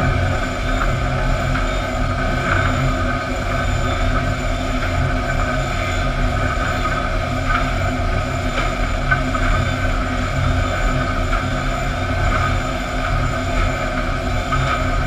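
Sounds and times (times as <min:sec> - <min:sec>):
machinery motors and conveyors humming: 0:00.0 - 0:15.0.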